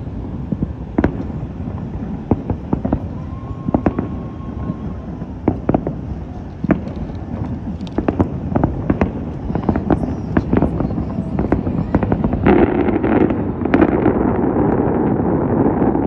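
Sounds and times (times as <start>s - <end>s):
low rumble of firework bursts: 0.0s - 16.0s
sharp firework bangs and pops: 0.0s - 16.0s.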